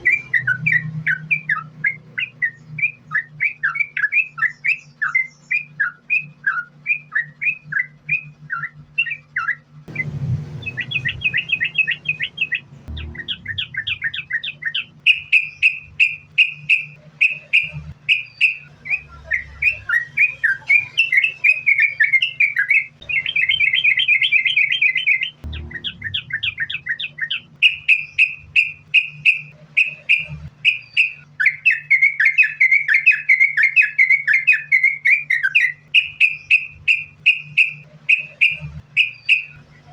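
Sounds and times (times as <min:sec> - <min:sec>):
bird singing chattering notes: 0:00.0 - 0:39.9
steady low hum: 0:00.0 - 0:39.9.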